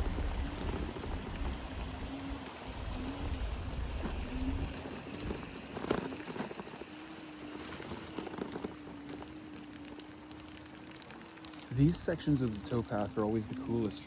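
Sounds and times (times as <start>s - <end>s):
electric scooter motor whine: 0.0s - 14.0s
rolling tyre noise: 0.0s - 14.0s.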